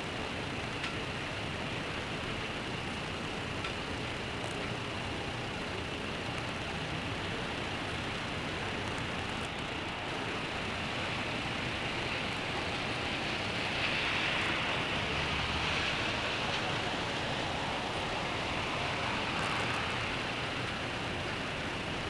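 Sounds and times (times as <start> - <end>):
traffic on a wet road: 0.0 - 22.0.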